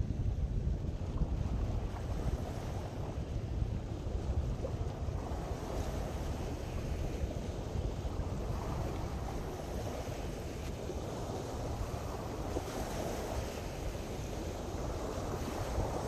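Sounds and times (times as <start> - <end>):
small waves lapping at a bank: 0.0 - 16.0
wind buffeting microphone: 0.0 - 16.0.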